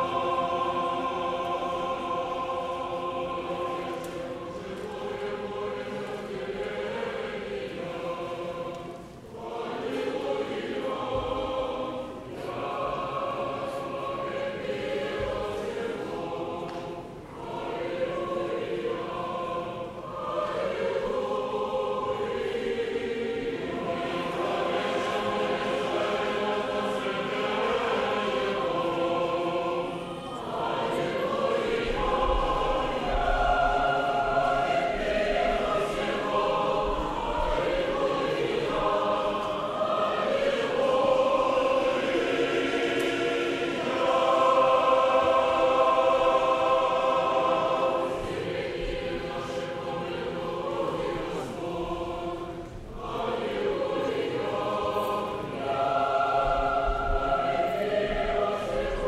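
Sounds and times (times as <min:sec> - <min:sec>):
choir singing chant: 0:00.0 - 0:59.0.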